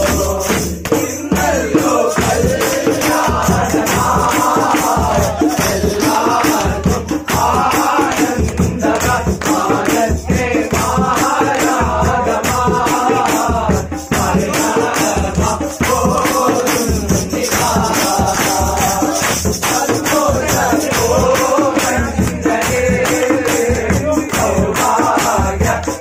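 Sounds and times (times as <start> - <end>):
conga drums: 0.0 - 26.0
jingling tambourine: 0.0 - 26.0
men singing in chorus: 0.0 - 26.0
hand claps: 2.2 - 13.4, 14.6 - 26.0.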